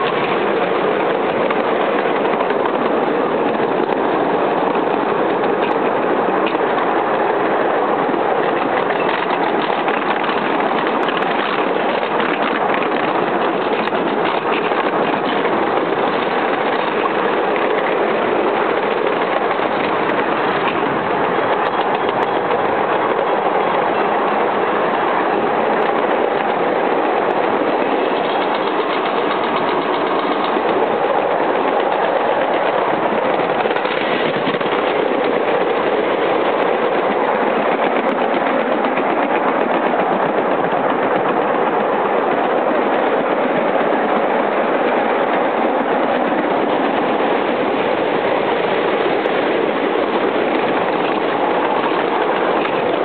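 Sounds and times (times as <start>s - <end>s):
miniature steam train running: 0.0s - 53.0s.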